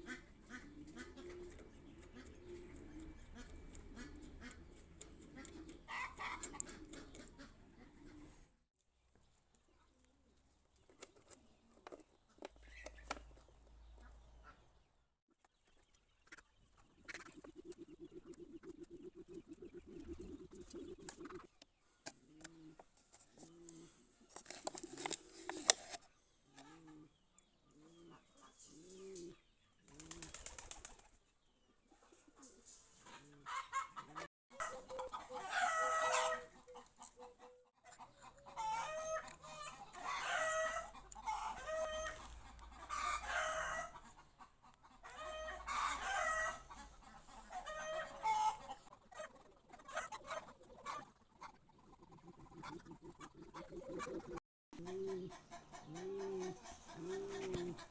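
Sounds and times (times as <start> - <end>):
chickens clucking: 0.0 - 8.4, 9.3 - 14.8, 15.4 - 25.8, 26.5 - 57.9.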